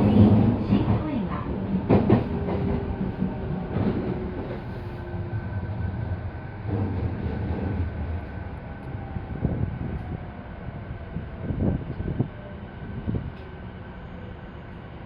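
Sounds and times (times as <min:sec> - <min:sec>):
train cabin rumble: 0:00.0 - 0:15.0.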